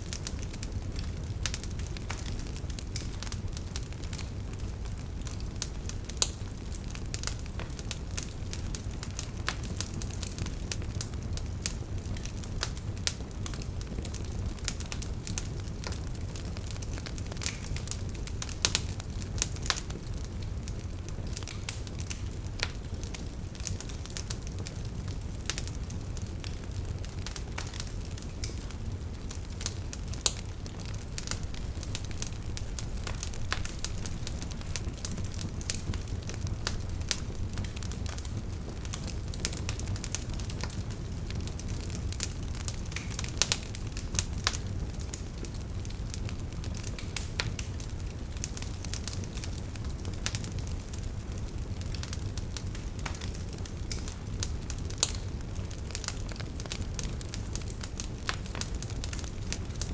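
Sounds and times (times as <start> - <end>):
campfire crackling and popping: 0.0 - 59.9
low rumble of flames: 0.0 - 59.9.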